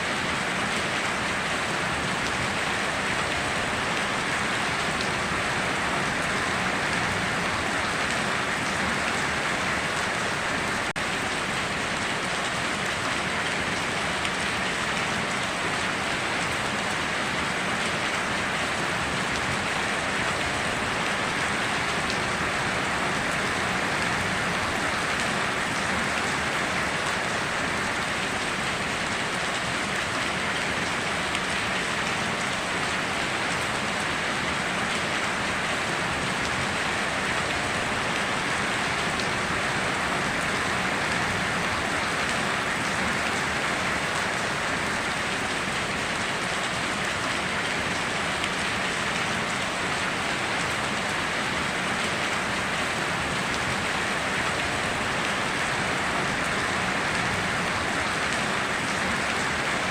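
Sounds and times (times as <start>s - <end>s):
heavy rain on foliage: 0.0s - 59.9s.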